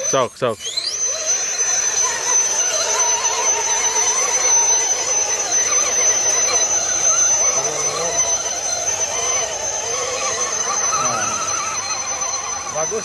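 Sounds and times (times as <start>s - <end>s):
electric motor whining: 0.0s - 13.0s
low grinding noise: 0.0s - 13.0s.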